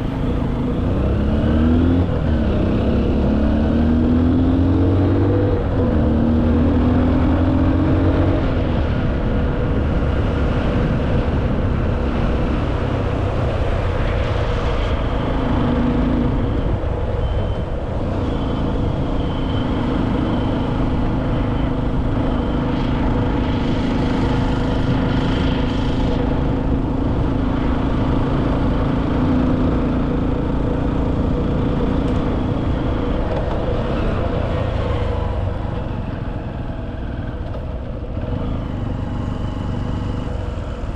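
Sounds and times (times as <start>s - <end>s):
engine running steadily: 0.0s - 40.9s
dense rushing noise: 7.8s - 40.9s.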